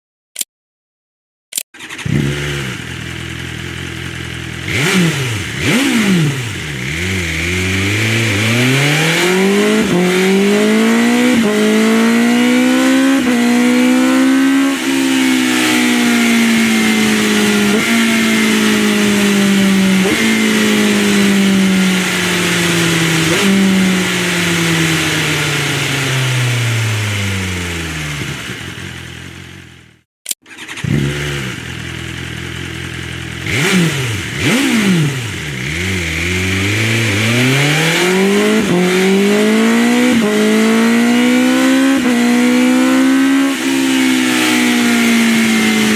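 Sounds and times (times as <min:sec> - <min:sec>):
motorcycle engine revving: 0:01.8 - 0:45.9.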